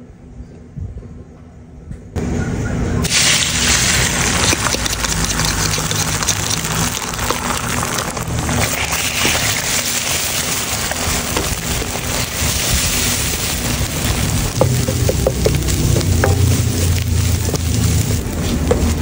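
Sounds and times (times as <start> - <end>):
eggs sizzling in hot oil: 3.0 - 19.0.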